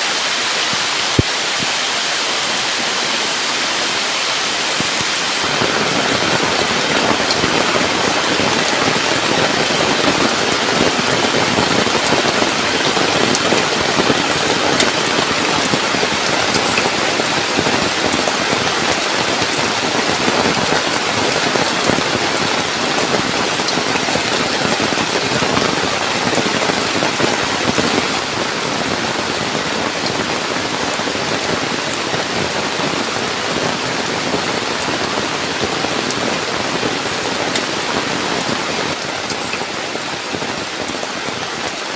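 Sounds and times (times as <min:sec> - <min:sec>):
heavy rain on forest: 0:00.0 - 0:41.9.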